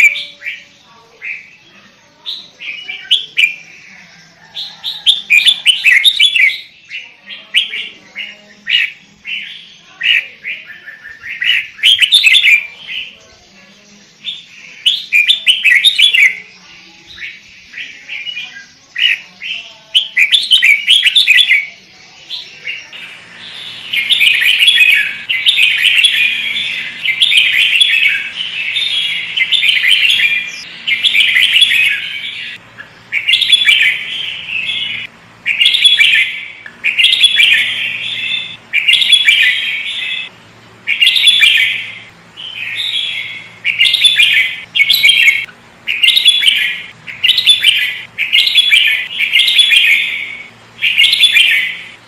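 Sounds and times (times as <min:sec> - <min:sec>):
bulbul singing chattering phrases: 0:00.0 - 0:52.0.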